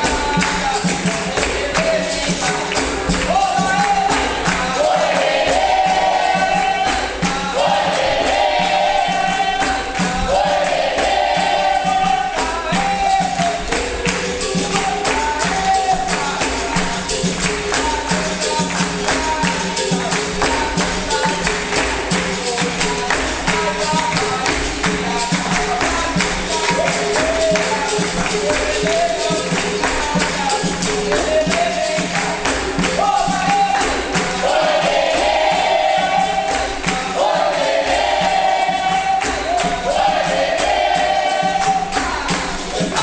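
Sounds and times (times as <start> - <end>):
group singing in chorus: 0.0 - 43.0
tambourine and percussion beat: 0.0 - 43.0.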